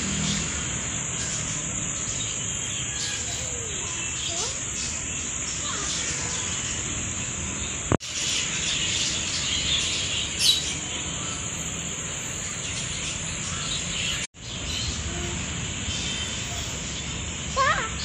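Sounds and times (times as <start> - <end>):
small parrots chattering and chirping: 1.2 - 18.0.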